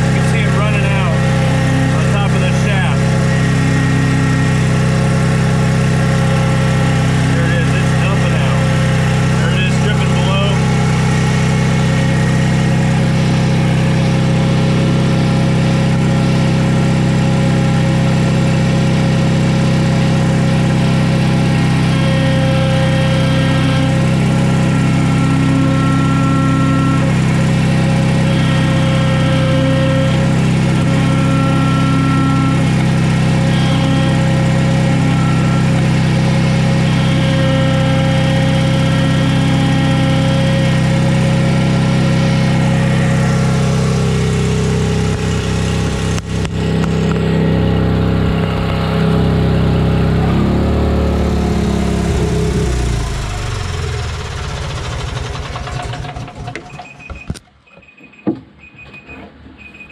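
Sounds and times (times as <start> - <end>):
skid steer engine idling: 0.0 - 57.4.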